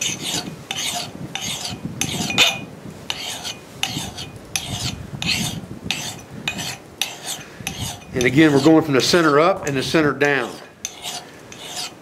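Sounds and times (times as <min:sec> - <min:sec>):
hand file scraping steel: 0:00.0 - 0:12.0.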